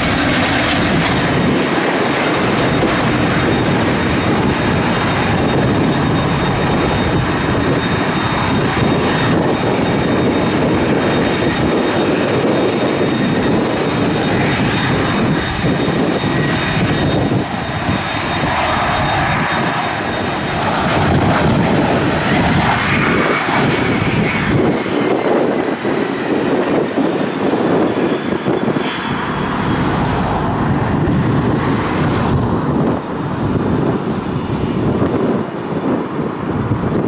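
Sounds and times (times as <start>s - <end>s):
jet engine high whine: 0.0s - 37.0s
jet engines rumbling: 0.0s - 37.0s.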